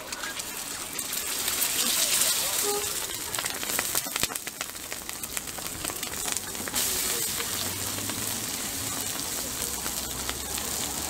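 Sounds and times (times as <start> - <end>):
food sizzling and crackling on griddle: 0.0 - 11.0.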